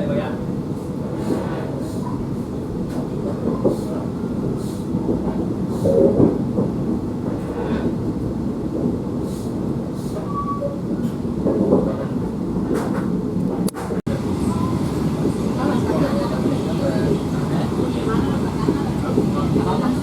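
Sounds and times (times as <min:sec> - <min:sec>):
train coach rumbling: 0:00.0 - 0:20.0.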